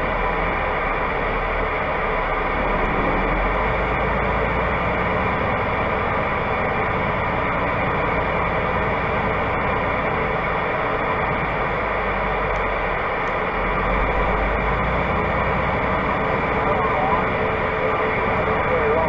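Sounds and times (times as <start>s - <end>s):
diesel truck engine running low: 0.0s - 19.0s.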